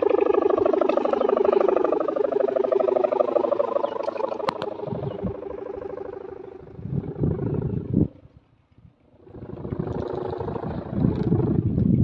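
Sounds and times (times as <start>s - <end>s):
kite hummer droning: 0.0s - 12.0s.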